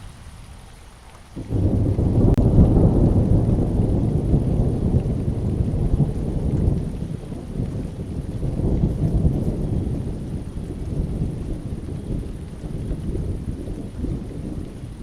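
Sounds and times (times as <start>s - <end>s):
rainstorm: 0.0s - 15.0s
thunder rumbling: 1.4s - 15.0s.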